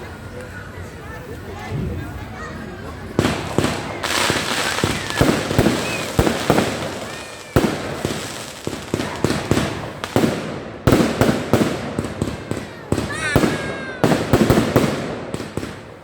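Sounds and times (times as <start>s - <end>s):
fireworks hiss and crackle: 0.2s - 16.0s
fireworks bangs: 3.1s - 16.0s.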